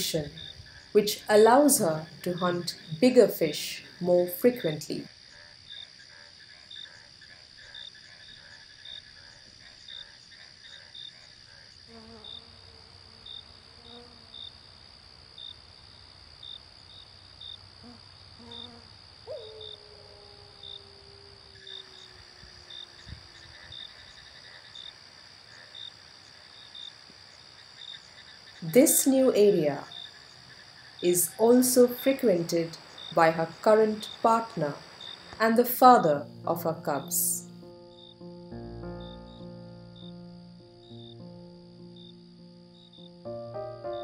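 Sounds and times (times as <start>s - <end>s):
insect trilling: 0.0s - 14.7s, 15.3s - 44.0s
insect chirp: 0.0s - 44.0s.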